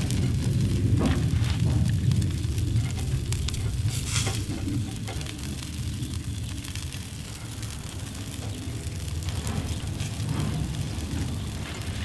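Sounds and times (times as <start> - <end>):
fish sizzling and crackling on a grill: 0.0 - 12.0
low rumble: 0.0 - 12.0.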